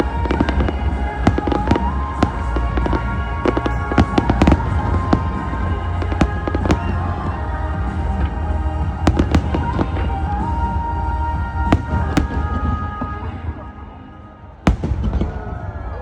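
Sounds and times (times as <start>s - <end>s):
fireworks bangs and crackles: 0.0s - 16.0s
loud music: 0.0s - 16.0s.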